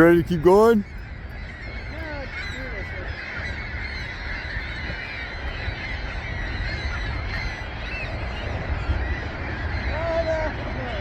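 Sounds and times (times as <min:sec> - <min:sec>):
flock of seagulls calling: 0:00.0 - 0:11.0.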